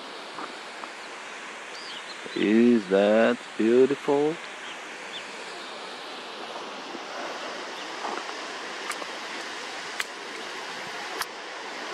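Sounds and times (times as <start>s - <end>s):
distant waterfall rushing: 0.0s - 11.9s.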